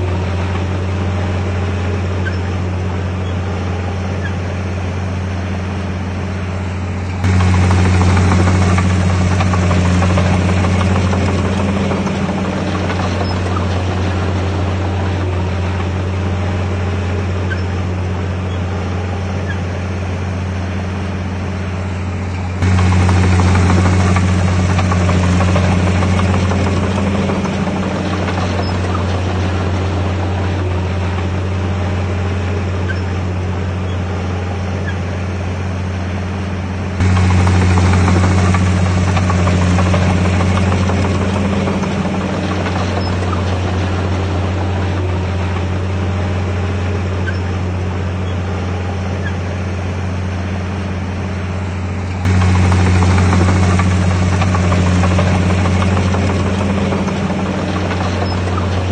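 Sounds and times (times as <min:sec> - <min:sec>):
bulldozer diesel engine drone: 0:00.0 - 0:58.9.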